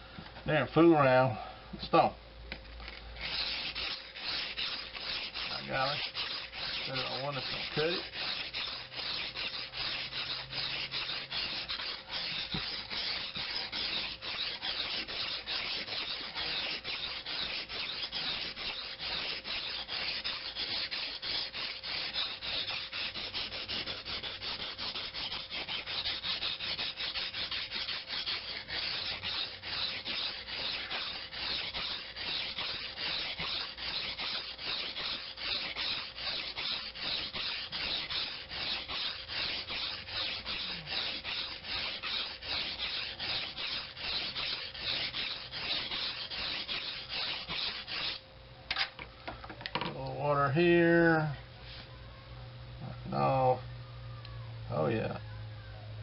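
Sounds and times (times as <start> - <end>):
knife scraping on whetstone: 3.2 - 48.2.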